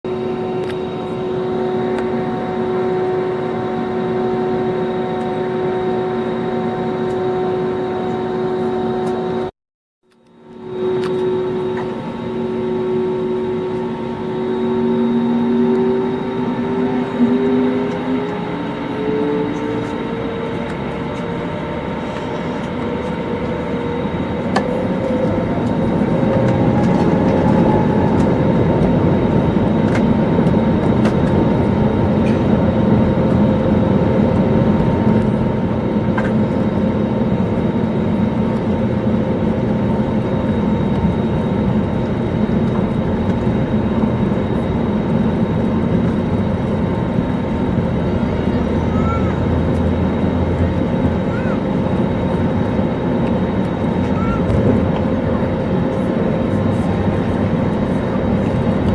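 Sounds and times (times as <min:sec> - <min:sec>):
engine whine: 0:00.0 - 0:58.9
airplane cabin engine rumble: 0:00.1 - 0:09.5, 0:10.1 - 0:58.9.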